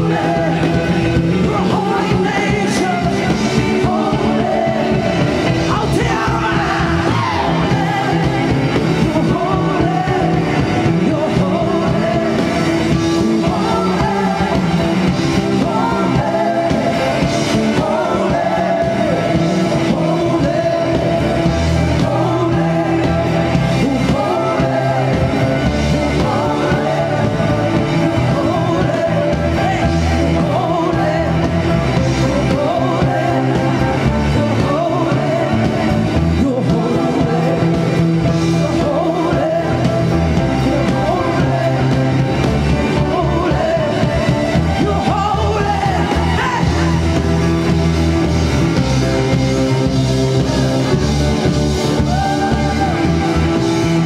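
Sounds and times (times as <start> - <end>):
person singing: 0.0 - 54.0
rock band playing: 0.0 - 54.0.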